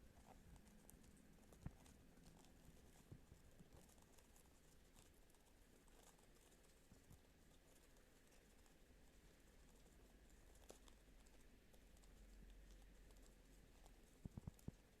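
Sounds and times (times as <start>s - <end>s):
faint light clicks and taps: 0.0s - 8.8s, 9.6s - 15.0s.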